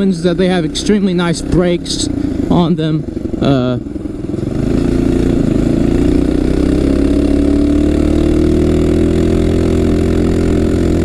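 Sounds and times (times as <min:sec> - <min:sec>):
minibike engine running: 0:00.0 - 0:11.0.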